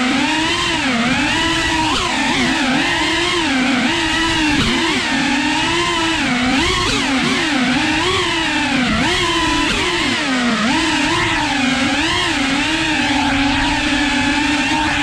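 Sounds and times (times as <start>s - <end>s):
drone motors whining: 0.0s - 15.0s
rushing prop wash: 0.0s - 15.0s.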